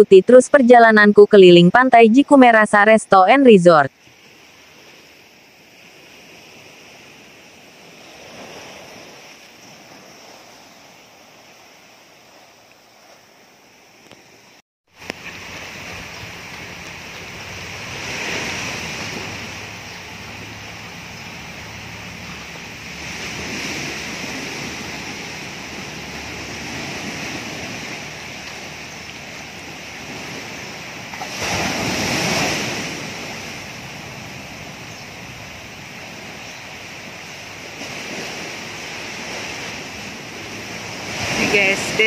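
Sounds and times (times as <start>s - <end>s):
small waves on sand: 4.0s - 42.0s.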